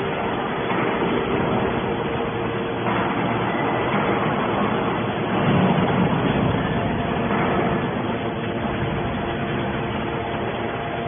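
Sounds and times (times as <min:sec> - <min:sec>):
hydraulic baler humming: 0:00.0 - 0:11.0.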